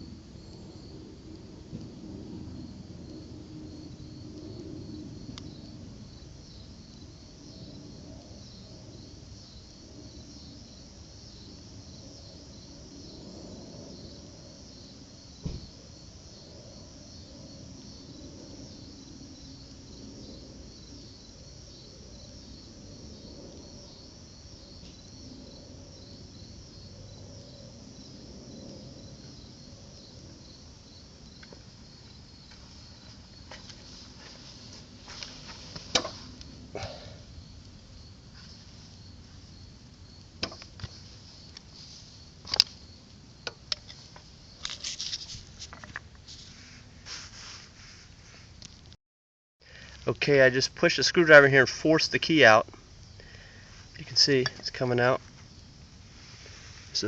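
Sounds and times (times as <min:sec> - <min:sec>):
crickets chirping: 0:00.0 - 0:48.9, 0:49.6 - 0:57.0.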